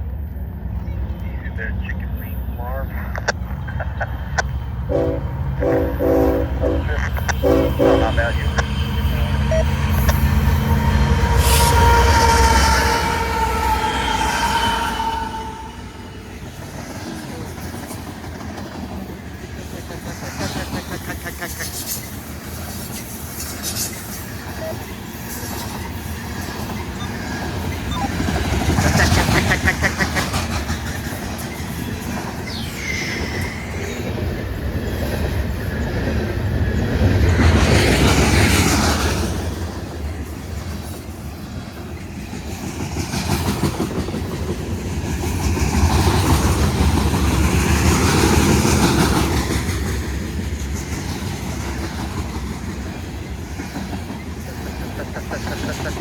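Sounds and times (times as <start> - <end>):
train wheels clickety-clack: 7.0 - 13.1, 16.3 - 56.0.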